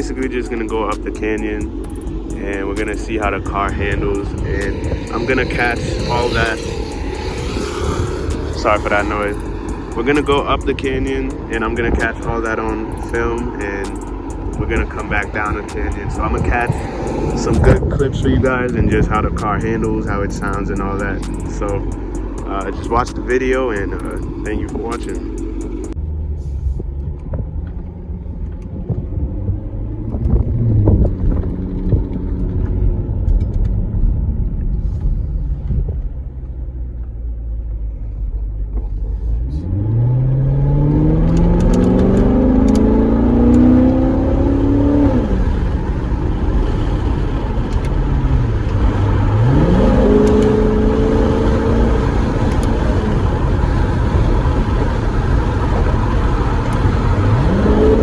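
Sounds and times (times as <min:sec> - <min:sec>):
wind noise: 0:00.0 - 0:36.4, 0:38.9 - 0:58.0
car engine accelerating: 0:00.0 - 0:58.0.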